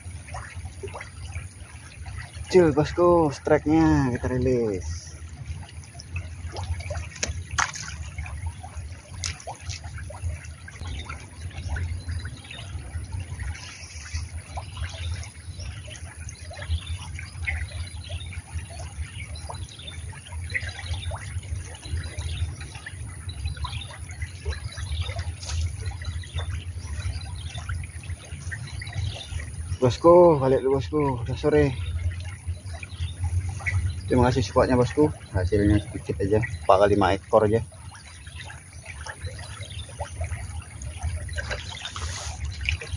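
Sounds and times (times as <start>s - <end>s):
small splashes and drips: 0.0s - 42.9s
stream water trickling: 0.0s - 42.9s.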